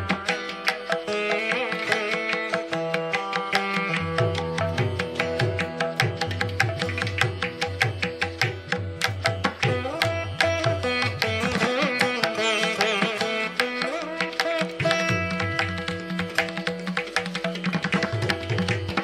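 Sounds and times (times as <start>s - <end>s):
bending string notes: 0.0s - 19.0s.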